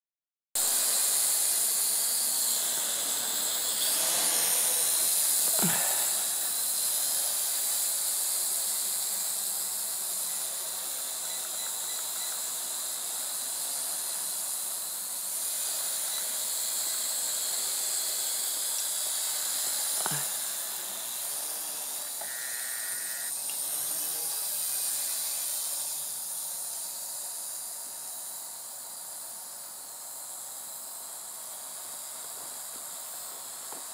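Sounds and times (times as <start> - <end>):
toy drone propellers whining: 0.6 - 28.2.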